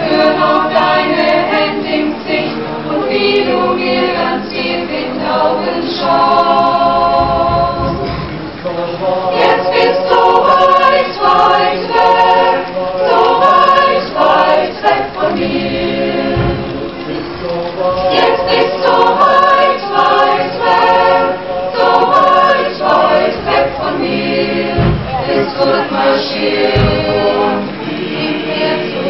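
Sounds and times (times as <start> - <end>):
women's choir singing: 0.0 - 29.0.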